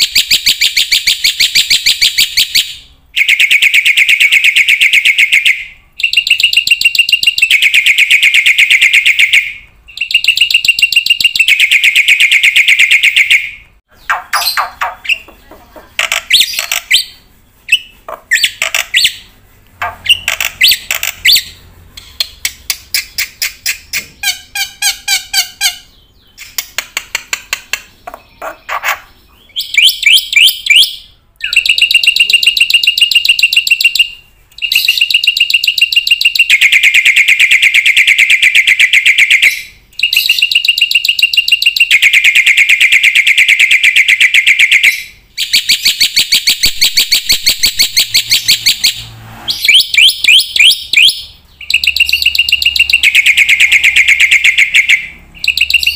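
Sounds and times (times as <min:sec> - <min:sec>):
bird singing fast trills: 0:00.0 - 0:26.7, 0:27.9 - 0:55.9.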